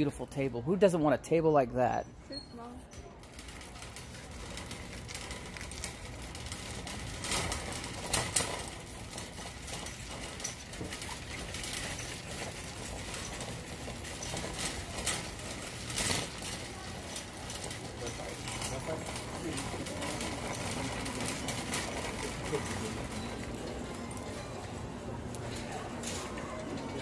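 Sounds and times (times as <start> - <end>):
cart clattering: 3.0 - 27.0
shopping cart rolling on concrete: 3.0 - 27.0.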